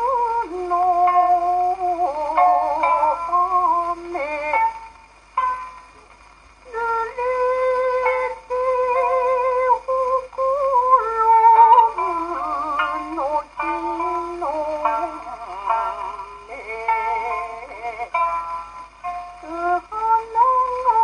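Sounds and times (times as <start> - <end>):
woman singing with vibrato: 0.0 - 5.0, 6.6 - 21.0
shamisen: 0.0 - 21.0.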